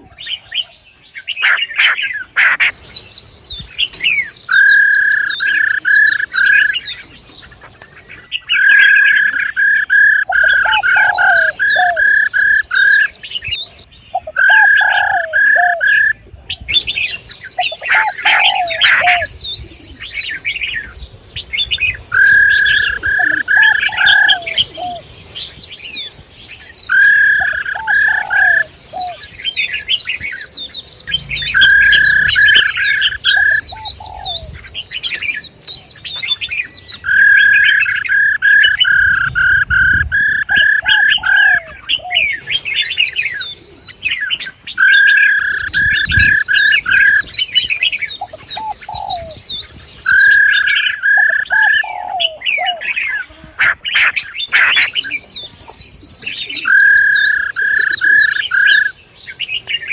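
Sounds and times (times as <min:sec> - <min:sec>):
songbird whistles chips and trills: 0:01.3 - 0:20.4, 0:21.4 - 0:52.7, 0:54.4 - 0:59.0.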